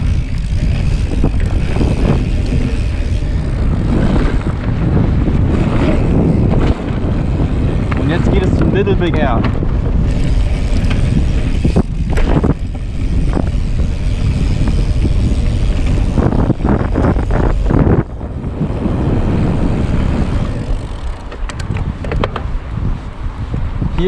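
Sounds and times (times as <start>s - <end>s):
tyres rumbling on dirt: 0.0s - 22.8s
bike clattering: 0.0s - 24.0s
wind buffeting microphone: 0.0s - 24.0s.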